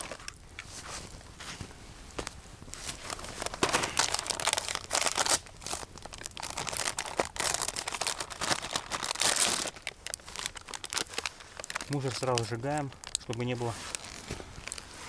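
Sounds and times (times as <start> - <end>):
food packaging crinkling and tearing: 0.0 - 15.0.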